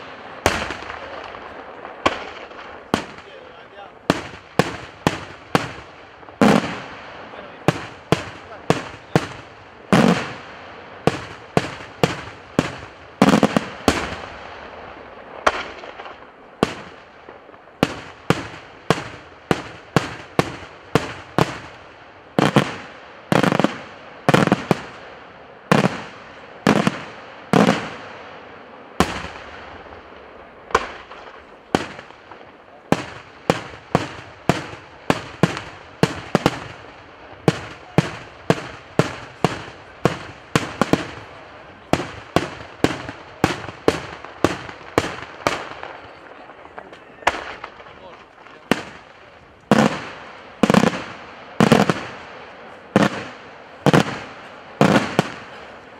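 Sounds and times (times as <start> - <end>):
heavy firework bangs: 0.0 - 55.9.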